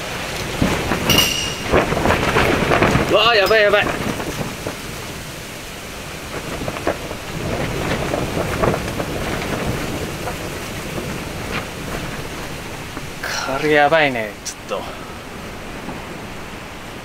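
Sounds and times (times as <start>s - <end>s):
gusty wind shaking tent: 0.0s - 17.0s.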